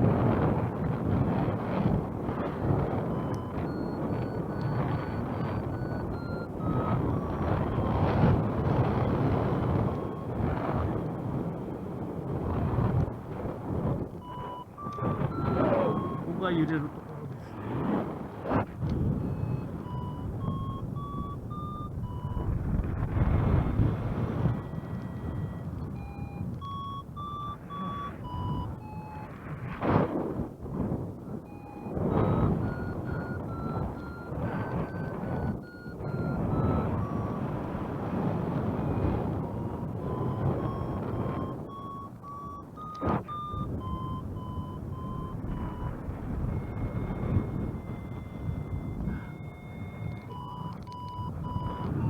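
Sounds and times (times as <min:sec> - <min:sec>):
wind on microphone: 0:00.0 - 0:52.0
variometer rising beeps: 0:02.0 - 0:17.5, 0:18.6 - 0:29.5, 0:31.4 - 0:52.0.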